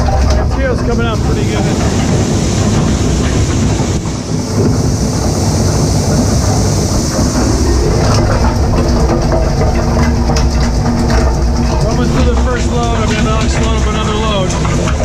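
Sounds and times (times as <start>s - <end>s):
blower running: 0.0s - 15.0s.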